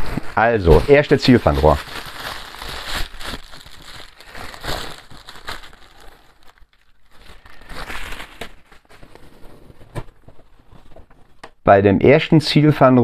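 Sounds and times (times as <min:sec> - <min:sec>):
bubble wrap crinkling: 0:00.0 - 0:11.6.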